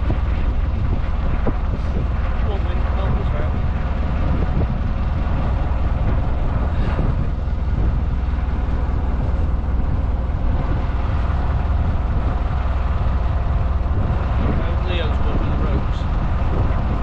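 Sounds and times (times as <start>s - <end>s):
engine running with low rumble: 0.0s - 17.0s.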